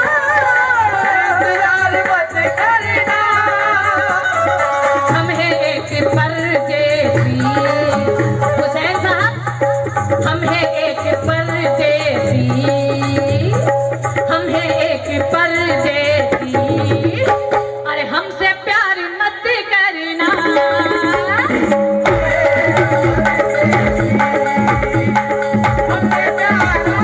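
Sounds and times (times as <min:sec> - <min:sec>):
tabla: 0:00.0 - 0:27.0
woman singing: 0:00.0 - 0:27.0.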